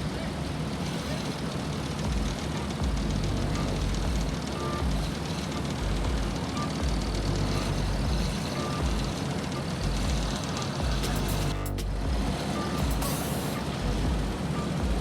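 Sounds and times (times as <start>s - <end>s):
diesel machinery rumbling: 0.0s - 15.0s
reversing alarm beeps: 2.8s - 15.0s.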